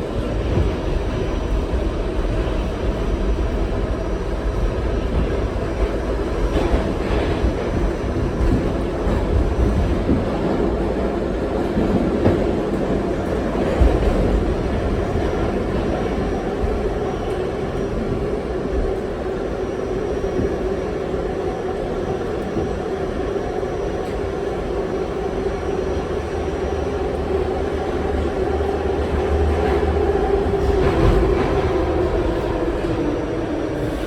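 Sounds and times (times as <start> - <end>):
subway car wheels rumbling: 0.0 - 34.0.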